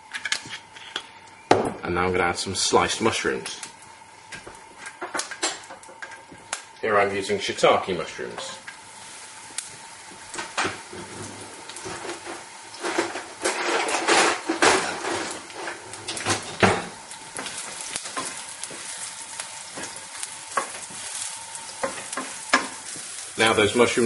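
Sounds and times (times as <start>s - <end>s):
mushrooms sizzling in oil: 0.0s - 24.0s.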